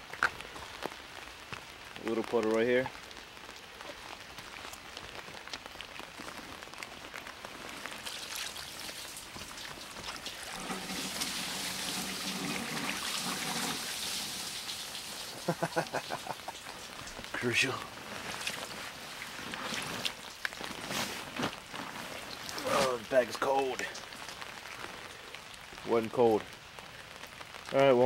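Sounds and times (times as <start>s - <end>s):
rain drops ticking: 0.0s - 28.0s.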